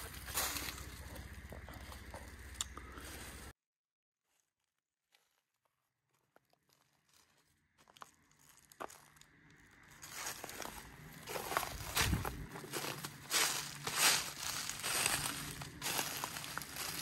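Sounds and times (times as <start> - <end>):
footsteps on dry ground: 0.0 - 3.5, 5.1 - 17.0.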